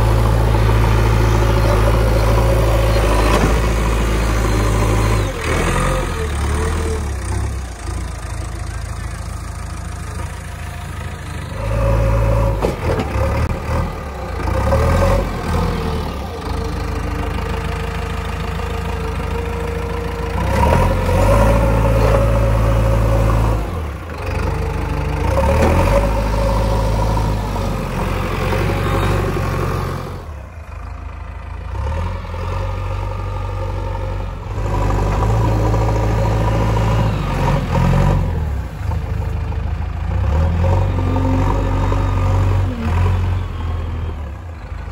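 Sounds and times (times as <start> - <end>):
diesel engine revving under load: 0.0 - 44.9.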